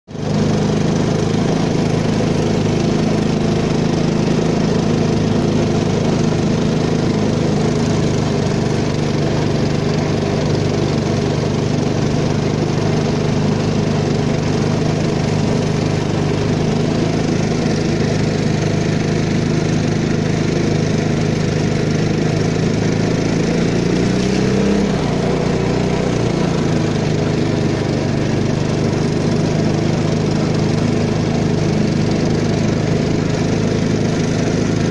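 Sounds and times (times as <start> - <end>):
small boat engine running: 0.1 - 34.9.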